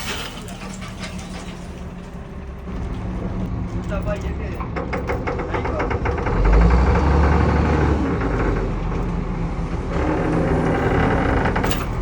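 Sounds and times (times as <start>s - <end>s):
heavy machinery rumbling: 0.0s - 12.0s.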